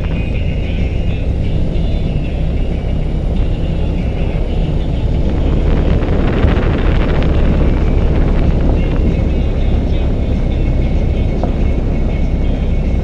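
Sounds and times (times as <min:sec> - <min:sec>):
motorcycle engine drone: 0:00.0 - 0:13.0
wind noise: 0:00.0 - 0:13.0.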